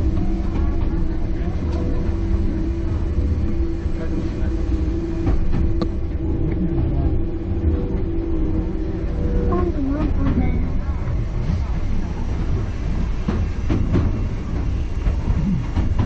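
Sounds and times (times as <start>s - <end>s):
electric train rumble: 0.0s - 16.0s
train hum: 0.0s - 16.0s.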